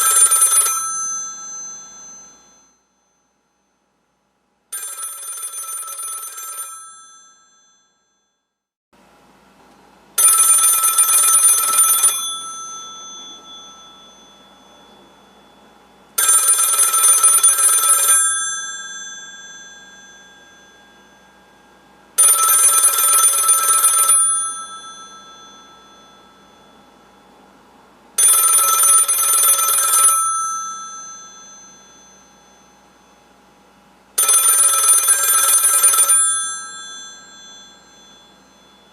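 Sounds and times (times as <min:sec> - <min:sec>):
telephone bell ringing: 0:00.0 - 0:03.4, 0:04.7 - 0:08.6, 0:10.2 - 0:27.5, 0:28.2 - 0:38.9.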